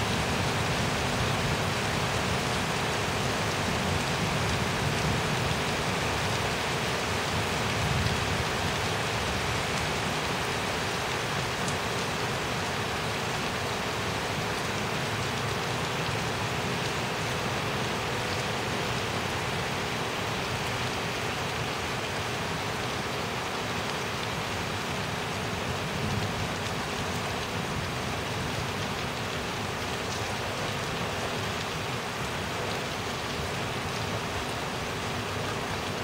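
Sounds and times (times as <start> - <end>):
heavy rain splashing: 0.0 - 36.0.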